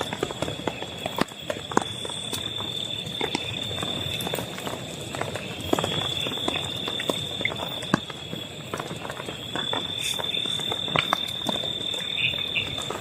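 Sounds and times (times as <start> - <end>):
raindrops tapping on tent fabric: 0.0 - 13.0.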